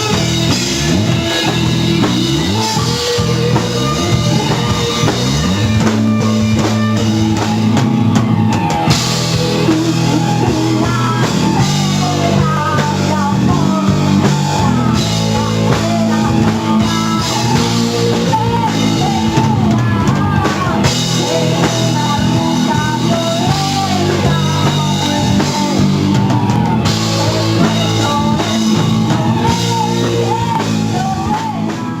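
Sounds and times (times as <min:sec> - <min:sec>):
bending guitar melody: 0:00.0 - 0:32.0
rock band playing: 0:00.0 - 0:32.0.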